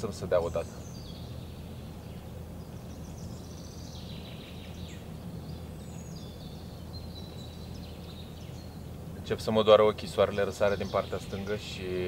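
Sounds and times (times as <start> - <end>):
birds singing: 0.0 - 12.0
low background rumble: 0.0 - 12.0.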